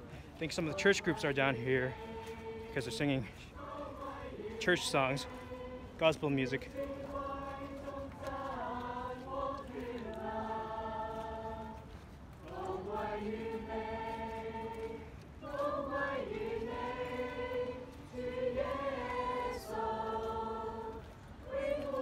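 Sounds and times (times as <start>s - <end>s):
group singing a slow hymn: 0.0s - 22.0s.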